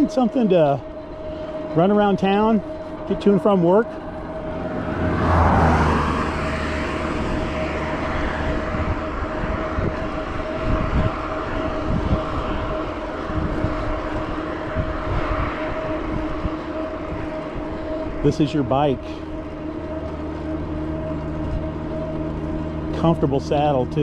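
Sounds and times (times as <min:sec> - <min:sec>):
electric bike whine: 0:00.0 - 0:24.0
wind rumble on microphone: 0:00.0 - 0:24.0
vehicle rushing past: 0:00.8 - 0:24.0.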